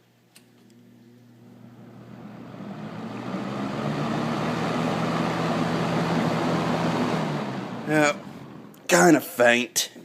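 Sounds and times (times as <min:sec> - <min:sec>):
box fan air rush and motor hum: 0:00.4 - 0:09.6.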